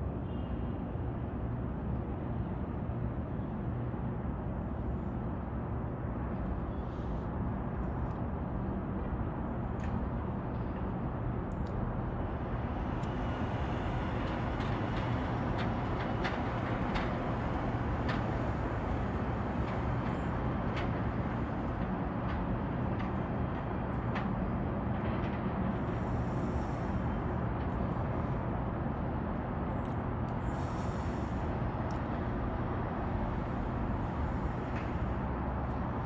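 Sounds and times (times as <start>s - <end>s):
city traffic rumble: 0.0s - 36.0s
faint constant hum: 0.0s - 36.0s.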